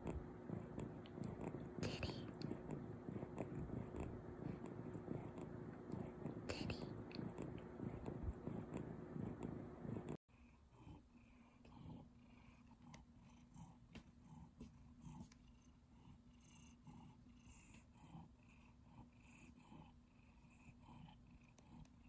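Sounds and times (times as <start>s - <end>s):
cat purring faintly: 0.0s - 22.0s.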